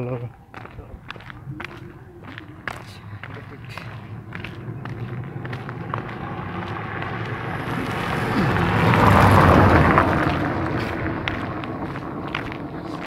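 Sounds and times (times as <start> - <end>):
car driving past: 0.5 - 13.0.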